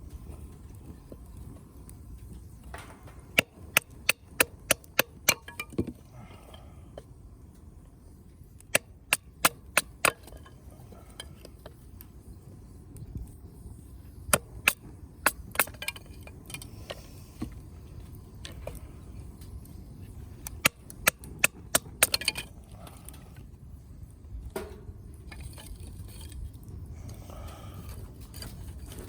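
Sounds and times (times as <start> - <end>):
firewood crackling and popping: 0.0 - 29.0
low steady rumble: 0.0 - 29.0.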